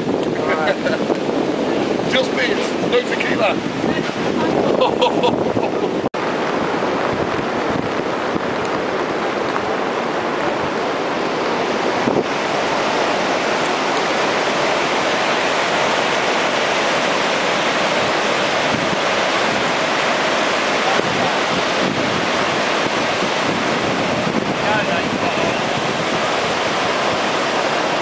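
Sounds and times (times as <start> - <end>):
storm surf breaking on sand: 0.0 - 28.0
wind buffeting microphone: 0.0 - 28.0.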